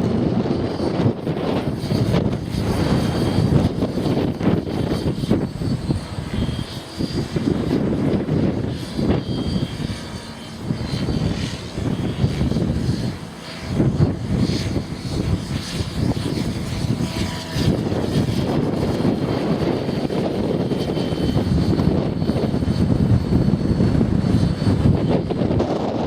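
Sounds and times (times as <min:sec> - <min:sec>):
rc helicopter whine: 0:00.0 - 0:26.0
wind buffeting microphone: 0:00.0 - 0:26.0.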